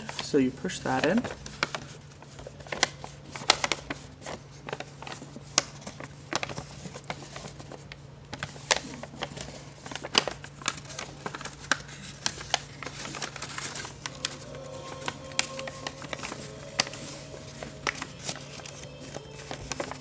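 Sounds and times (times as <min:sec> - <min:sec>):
paper crinkling and crackling: 0:00.0 - 0:20.0.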